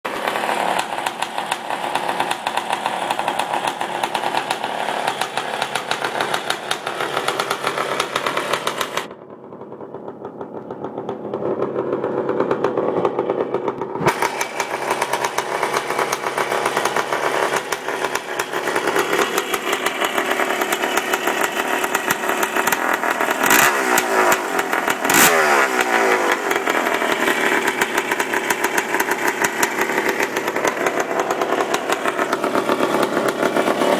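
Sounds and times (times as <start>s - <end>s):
engine throttle blips: 0.1s - 33.9s
motocross engine running: 0.1s - 33.9s.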